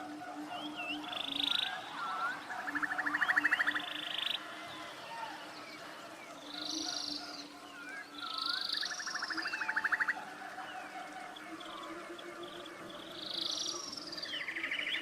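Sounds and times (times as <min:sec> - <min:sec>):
faint hum of calling: 0:00.0 - 0:15.0.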